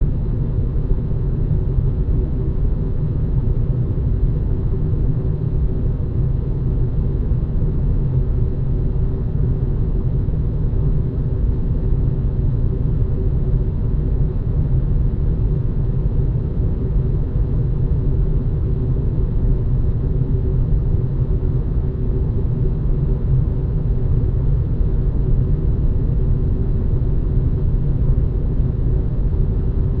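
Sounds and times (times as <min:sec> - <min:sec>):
air rushing through ventilation ducts: 0:00.0 - 0:30.0
faint hum: 0:00.0 - 0:30.0.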